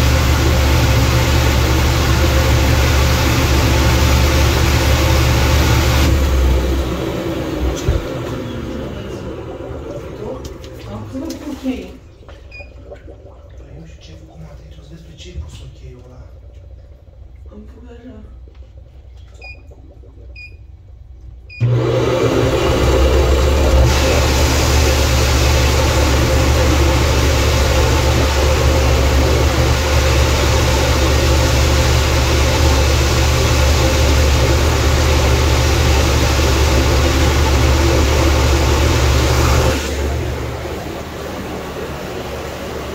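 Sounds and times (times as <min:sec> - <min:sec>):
water pump motor humming: 0:00.0 - 0:42.9.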